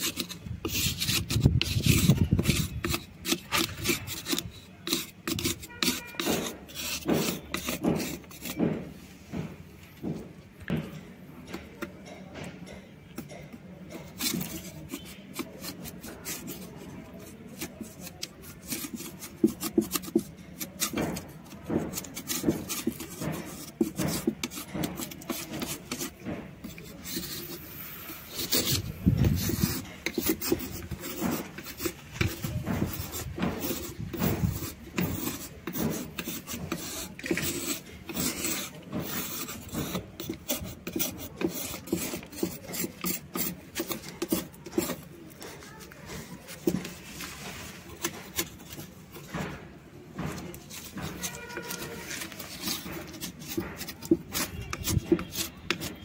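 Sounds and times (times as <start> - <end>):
knife scraping stone: 0.0 - 8.9, 13.2 - 49.6, 50.2 - 56.0.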